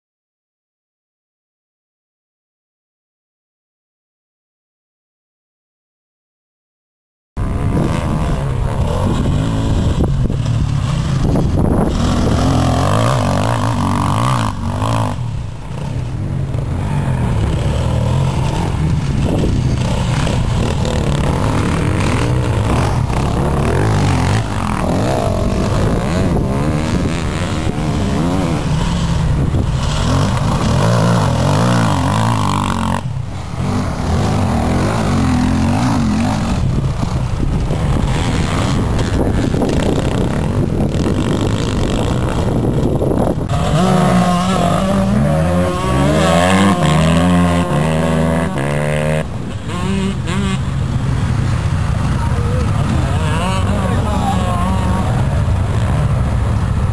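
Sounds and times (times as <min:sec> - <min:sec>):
motorcycle engine revving: 0:07.4 - 0:56.9.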